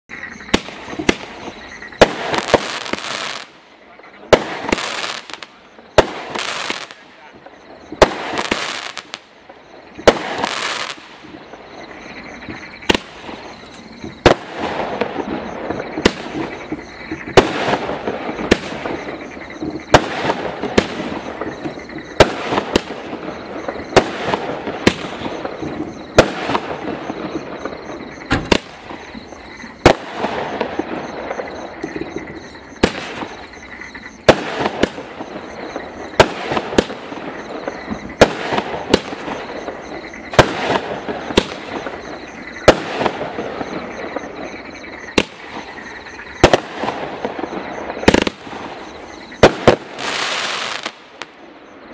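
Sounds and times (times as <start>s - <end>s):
firework bangs: 0.2s - 51.6s
firework crackling: 0.4s - 44.4s, 45.1s - 51.9s.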